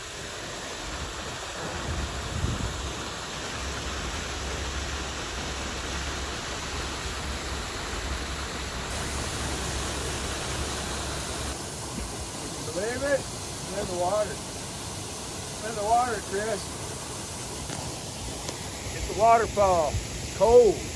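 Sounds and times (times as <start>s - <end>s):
waterfall rushing and splashing: 0.0s - 20.9s.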